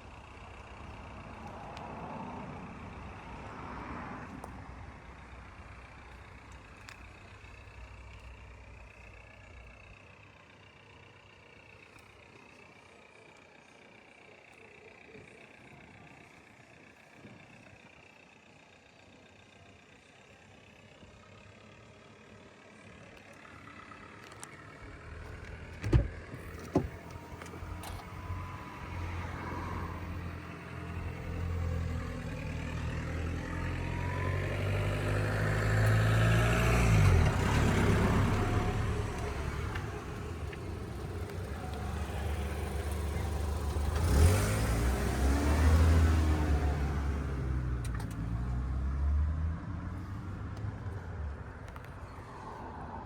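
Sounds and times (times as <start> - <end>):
diesel car engine running: 0.0 - 13.0, 20.1 - 53.0.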